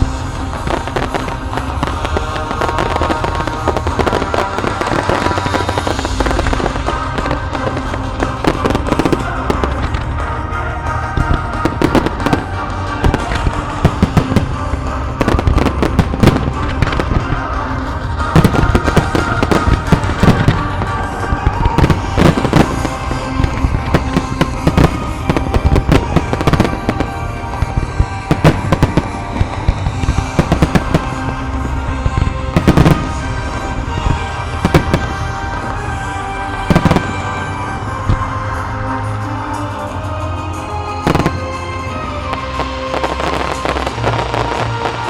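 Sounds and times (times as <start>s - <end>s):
fireworks bursting and crackling: 0.0s - 45.0s
music: 0.0s - 45.0s.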